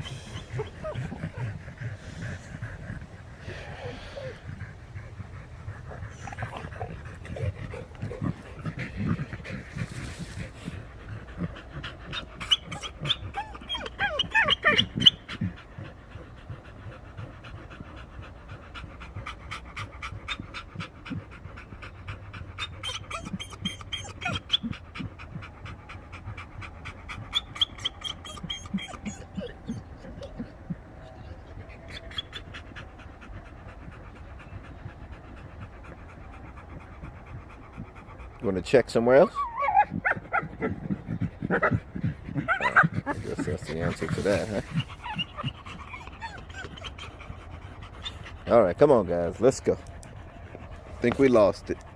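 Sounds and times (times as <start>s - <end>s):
dogs panting hard: 0.0s - 51.9s.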